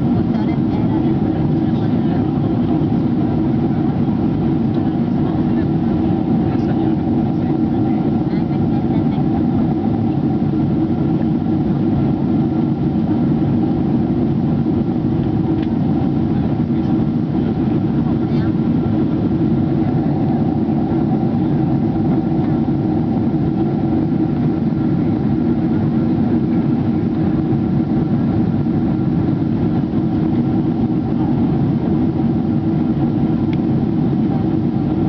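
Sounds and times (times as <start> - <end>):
aircraft cabin drone: 0.0 - 35.0.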